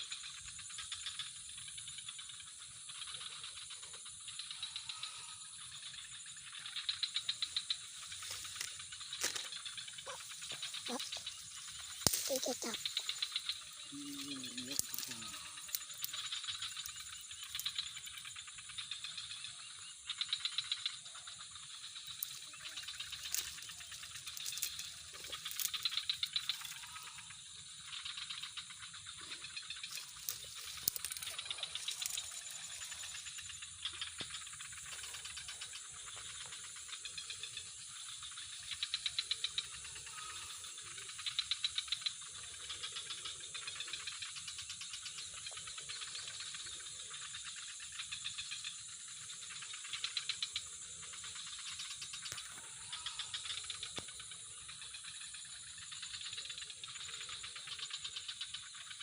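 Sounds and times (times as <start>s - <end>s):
high-pitched insect drone: 0.0s - 59.0s
insects chirping: 0.0s - 59.0s.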